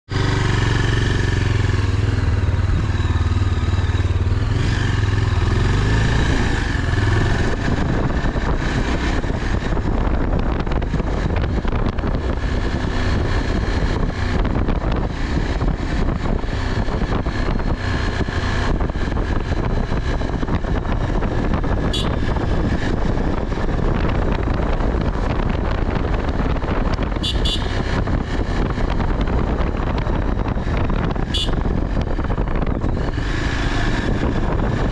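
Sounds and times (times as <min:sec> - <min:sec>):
motorbike engine running: 0:00.1 - 0:34.9
wind buffeting microphone: 0:00.2 - 0:34.9.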